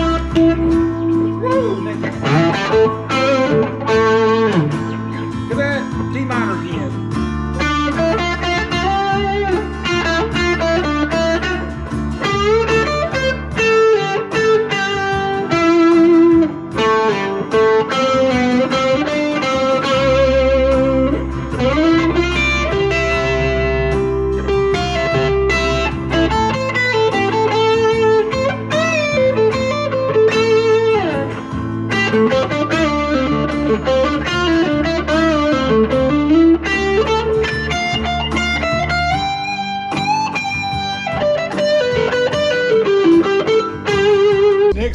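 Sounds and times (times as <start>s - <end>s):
backing track bass notes: 0.0s - 44.9s
overdriven electric guitar lead: 0.0s - 44.9s.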